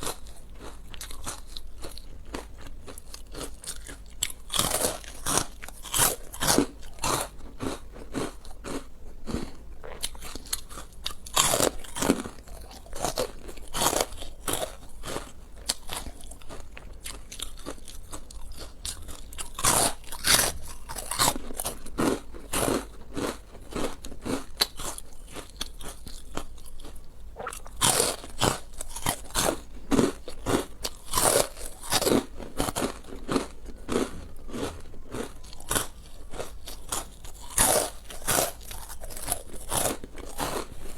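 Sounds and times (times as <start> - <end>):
crunchy bites and chewing: 0.0 - 40.9.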